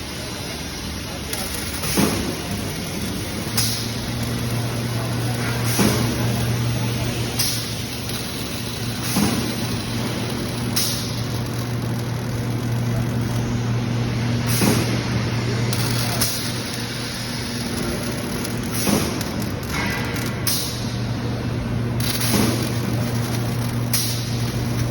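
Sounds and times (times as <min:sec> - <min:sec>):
machinery humming: 0:00.0 - 0:24.9.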